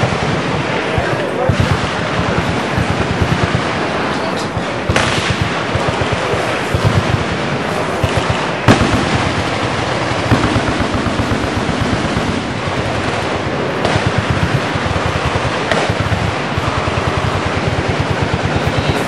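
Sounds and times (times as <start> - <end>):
rapid gunfire: 0.0 - 19.0.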